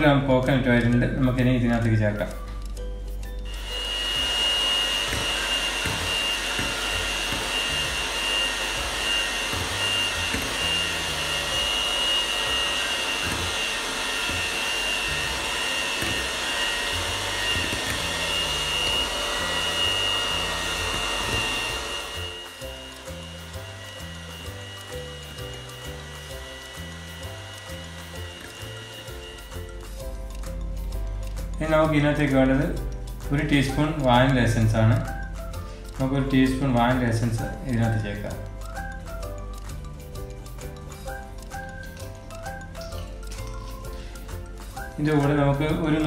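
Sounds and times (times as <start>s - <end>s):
electric hand mixer whine: 2.8s - 46.0s.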